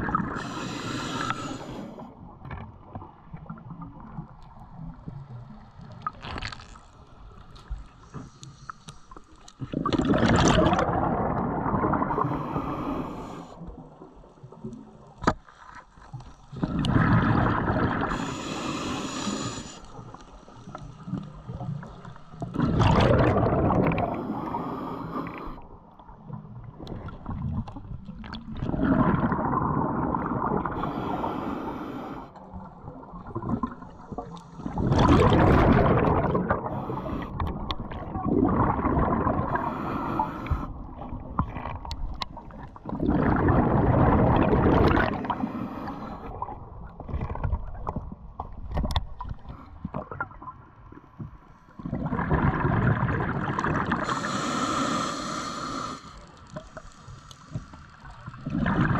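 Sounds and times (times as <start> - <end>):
regulator bubbles underwater: 0.0 - 6.3, 9.6 - 15.4, 16.5 - 54.6, 55.8 - 58.9.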